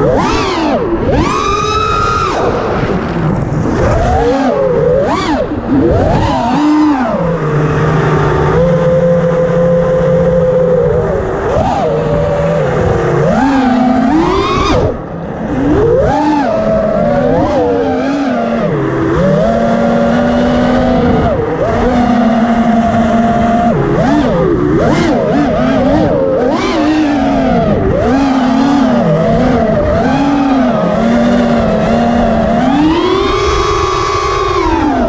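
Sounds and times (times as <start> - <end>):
quadcopter motors whining: 0.0 - 35.0.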